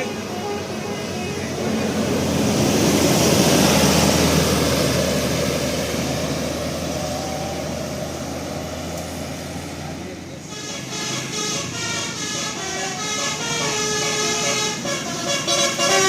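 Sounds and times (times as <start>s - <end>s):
bus driving past: 0.0s - 16.0s.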